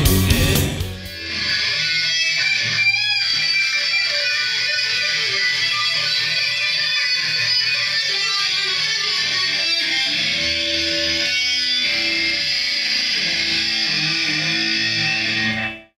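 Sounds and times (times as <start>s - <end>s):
electric guitar playing: 0.0s - 15.9s.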